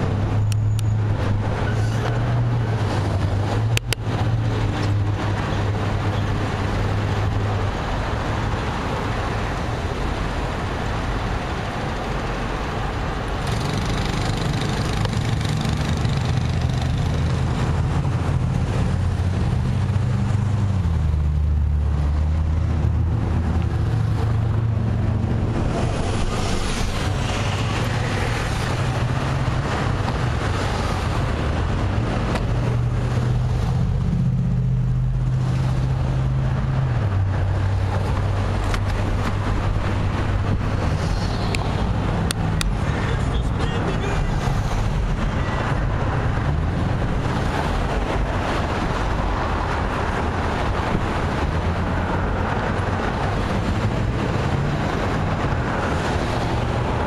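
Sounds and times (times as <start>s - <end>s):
car engines humming: 0.0s - 57.0s
vehicles passing: 0.0s - 57.0s.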